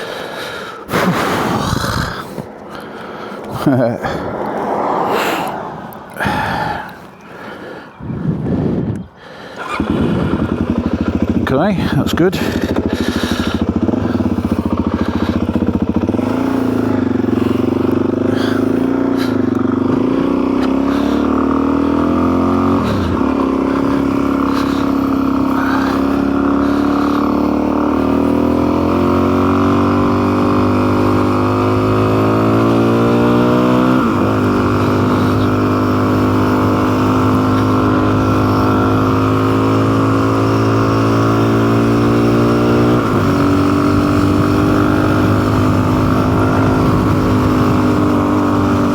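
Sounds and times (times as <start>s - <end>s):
motorcycle engine accelerating: 0.9s - 7.2s, 8.0s - 48.9s.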